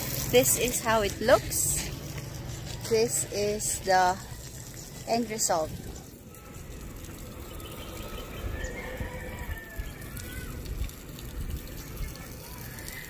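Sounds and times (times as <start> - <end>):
hose water splashing on concrete: 0.0 - 13.0.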